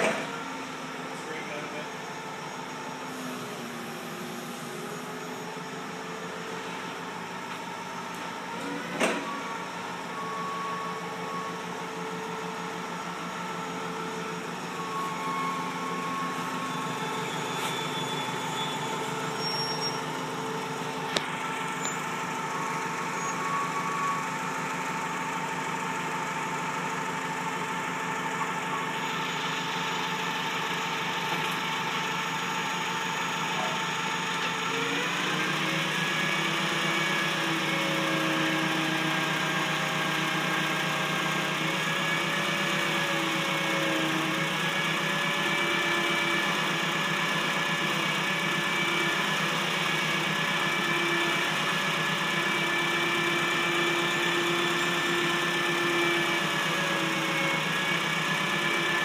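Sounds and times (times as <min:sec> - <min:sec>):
forklift engine running: 0:00.0 - 0:59.0.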